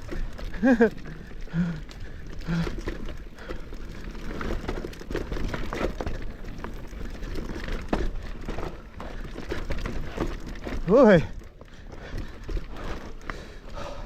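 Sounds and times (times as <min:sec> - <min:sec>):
bike clattering over rocks: 0:00.0 - 0:13.4.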